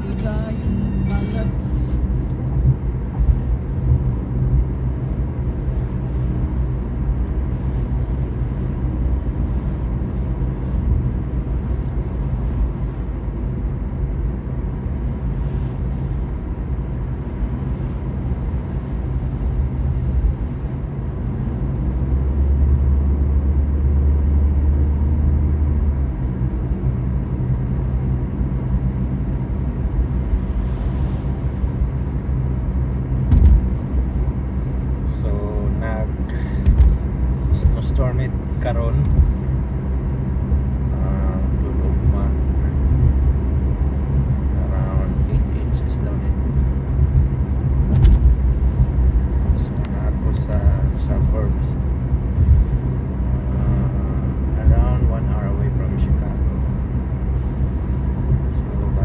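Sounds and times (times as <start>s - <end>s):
deeper rumble: 0.0s - 9.6s, 10.4s - 59.0s
car engine and tyre rumble: 0.0s - 59.0s.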